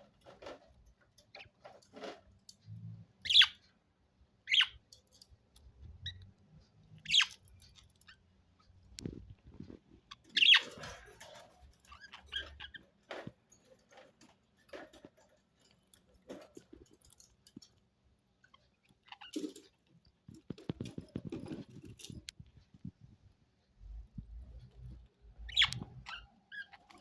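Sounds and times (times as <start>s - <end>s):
budgies clicking and ticking: 0.0s - 23.0s, 23.8s - 27.0s.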